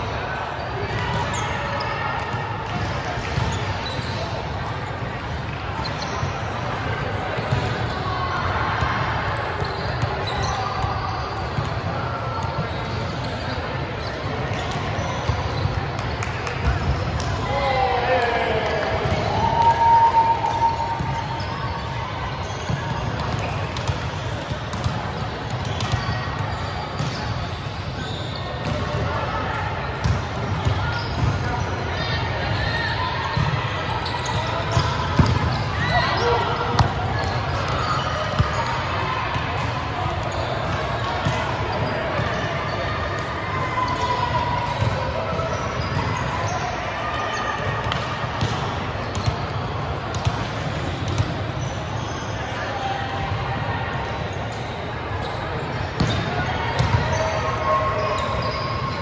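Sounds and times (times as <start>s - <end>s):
murmur of echoing voices: 0.0s - 59.0s.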